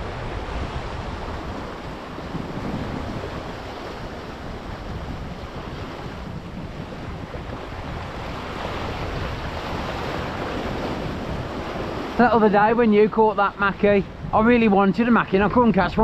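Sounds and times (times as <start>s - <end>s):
sea waves on rocky shore: 0.0s - 16.0s
wind on microphone: 0.0s - 16.0s.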